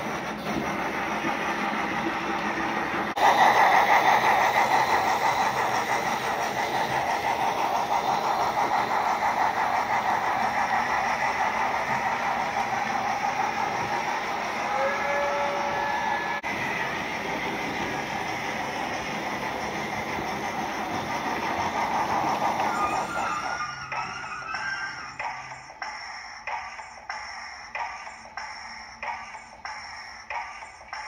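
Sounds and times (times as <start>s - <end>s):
model train rolling on track: 0.0s - 31.0s.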